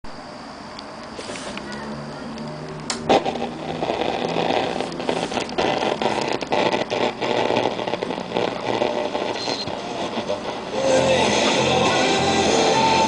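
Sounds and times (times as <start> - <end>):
radio static hiss and crackling: 0.1 - 13.0.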